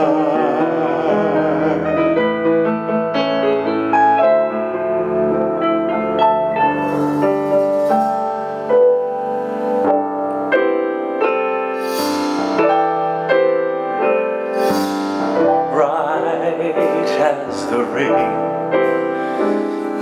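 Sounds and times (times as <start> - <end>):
slow piano chords and melody: 0.0 - 20.0.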